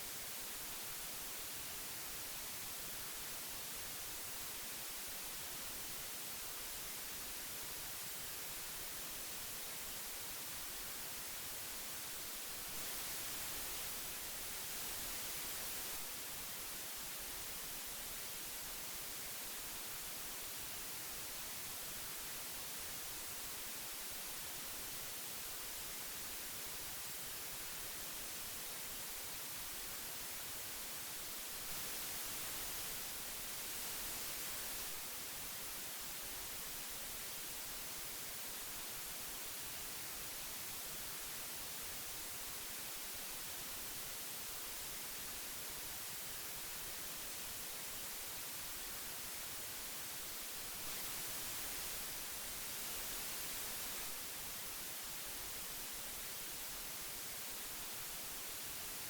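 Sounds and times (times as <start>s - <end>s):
tape hiss: 0.0s - 59.0s.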